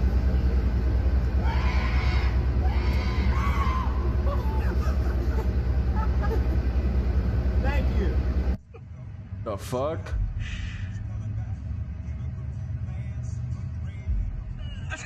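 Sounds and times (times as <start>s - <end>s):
low rumble with fast flutter: 0.0s - 15.0s.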